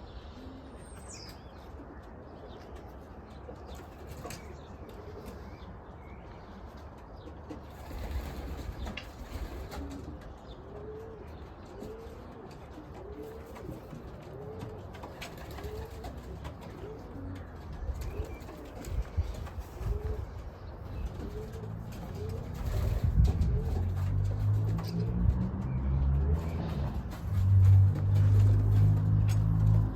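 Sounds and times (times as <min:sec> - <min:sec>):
pigeons cooing: 0:00.0 - 0:05.8, 0:07.2 - 0:29.9.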